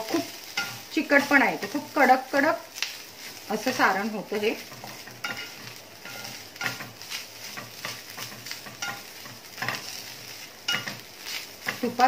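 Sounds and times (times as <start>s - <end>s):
soft sizzle: 0.0s - 12.0s
wooden spatula scraping pan: 0.0s - 12.0s.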